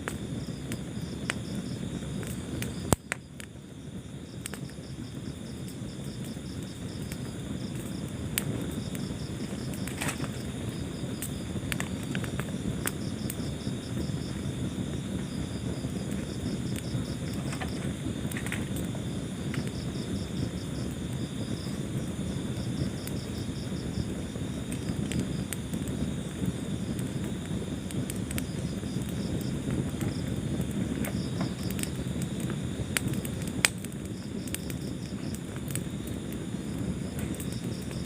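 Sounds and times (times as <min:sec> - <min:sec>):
crickets chirping: 0:00.0 - 0:38.0
fire crackling and popping: 0:00.0 - 0:38.0
low rumble of flames: 0:00.0 - 0:38.0.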